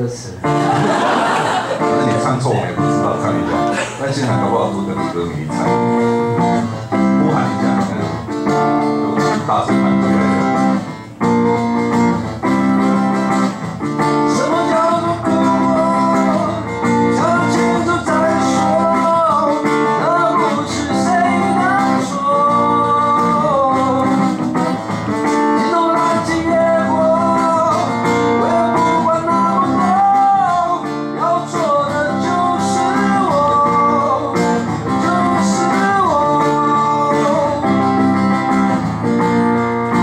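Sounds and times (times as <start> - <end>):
acoustic guitar strumming chords: 0.0 - 40.0
man singing: 1.8 - 10.8, 14.0 - 38.6.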